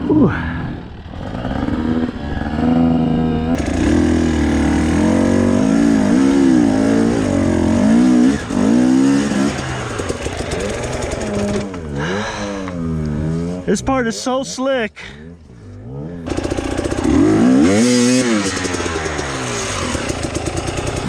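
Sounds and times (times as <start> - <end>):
two-stroke dirt bike engine revving: 0.0 - 14.6, 15.2 - 21.0.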